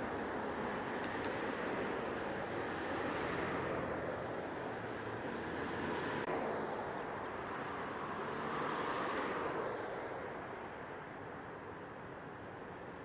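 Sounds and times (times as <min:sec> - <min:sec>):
vehicles passing on road: 0:00.0 - 0:13.0.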